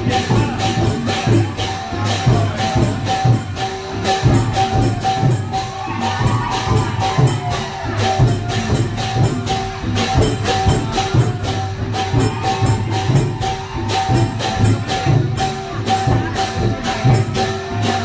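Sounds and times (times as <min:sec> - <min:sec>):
drums beating: 0:00.0 - 0:18.0
procession music: 0:00.0 - 0:18.0
small cymbals: 0:00.0 - 0:18.0.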